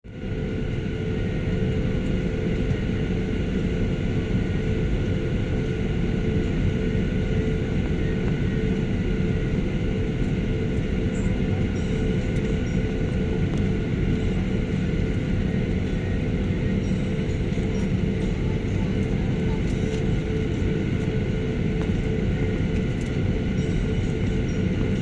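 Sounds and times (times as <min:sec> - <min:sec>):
aircraft engines running: 0:00.1 - 0:25.0.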